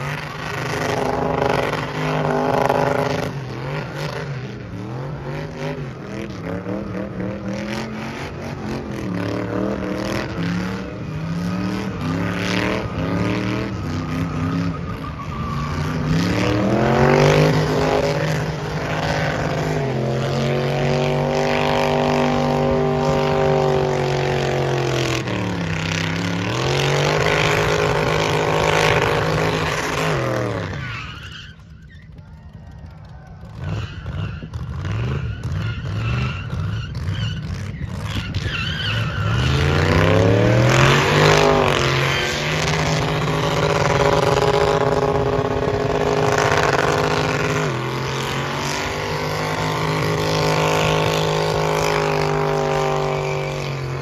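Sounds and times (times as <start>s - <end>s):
car engine revving high: 0.0s - 30.8s, 33.7s - 54.0s.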